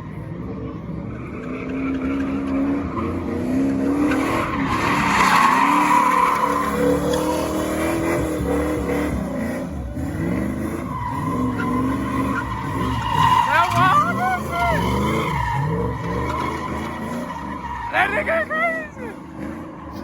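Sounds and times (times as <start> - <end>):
car engine revving: 0.0 - 20.0
tyres screeching: 1.4 - 20.0.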